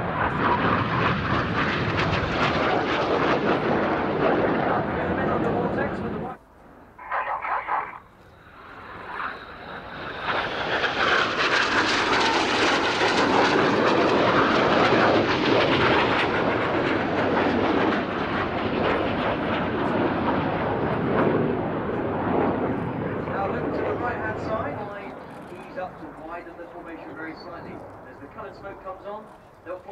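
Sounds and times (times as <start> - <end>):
jets flying past: 0.0 - 29.9.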